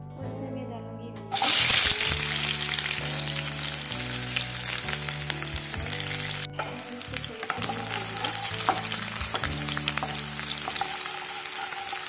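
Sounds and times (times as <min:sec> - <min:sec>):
background music: 0:00.0 - 0:12.0
onions sizzling in hot oil: 0:01.3 - 0:12.0.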